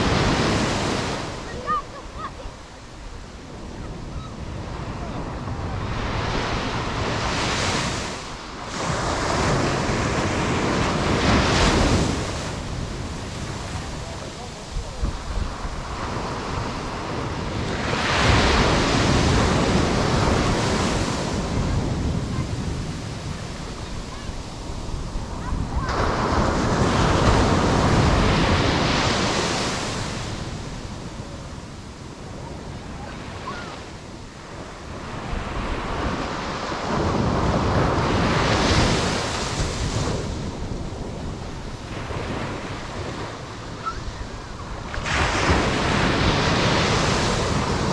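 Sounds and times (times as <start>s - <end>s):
surf breaking on shore: 0.0s - 47.9s.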